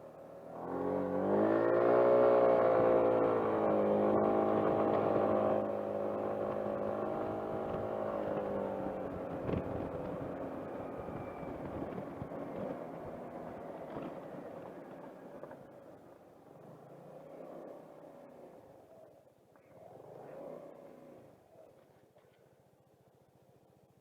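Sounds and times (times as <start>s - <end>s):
motor scooter engine accelerating: 0.0s - 18.8s, 19.6s - 21.5s.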